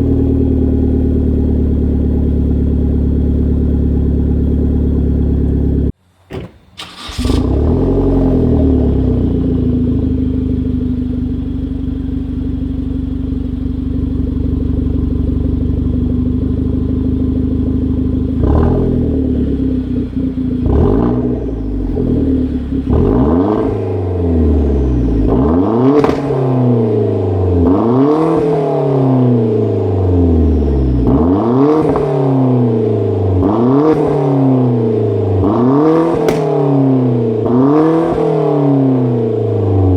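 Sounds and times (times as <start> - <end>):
car engine revving: 6.8 - 39.9.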